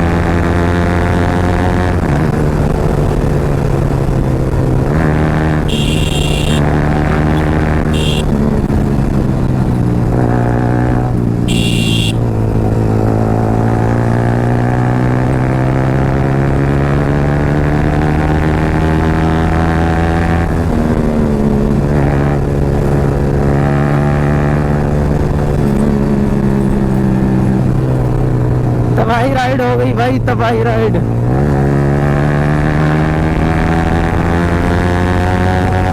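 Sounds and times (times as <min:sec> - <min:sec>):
motorcycle engine accelerating: 0:00.0 - 0:29.0, 0:31.0 - 0:35.9.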